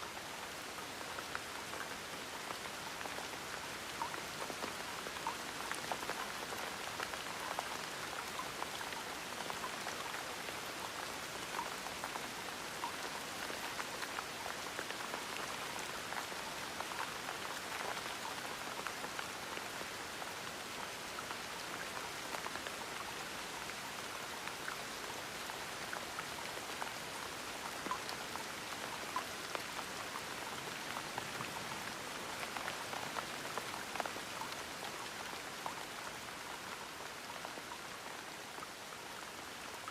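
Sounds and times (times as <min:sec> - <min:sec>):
gentle rain pattering: 0:00.0 - 0:39.9.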